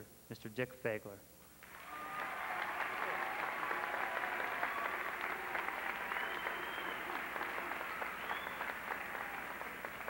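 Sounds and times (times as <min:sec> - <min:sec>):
audience applause: 0:01.6 - 0:10.0.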